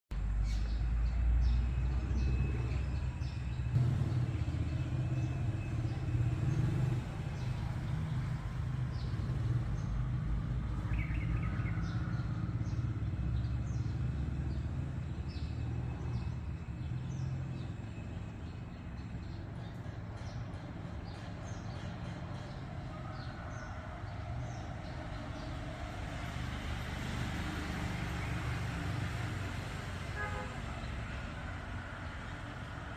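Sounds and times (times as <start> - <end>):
motor traffic rumble: 0.1 - 32.9.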